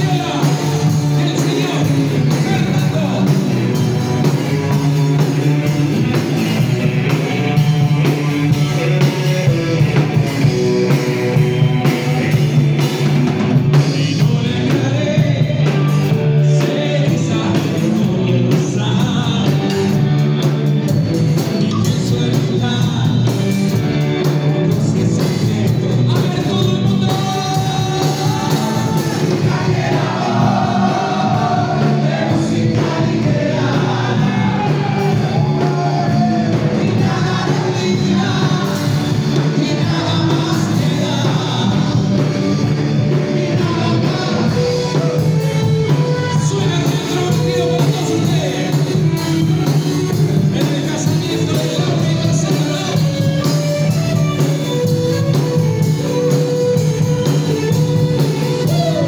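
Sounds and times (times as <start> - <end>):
person singing: 0.0 - 6.3, 7.1 - 12.9, 13.6 - 20.9, 24.4 - 56.6, 57.6 - 59.0
drum kit: 0.0 - 59.0
electric guitar: 0.0 - 59.0.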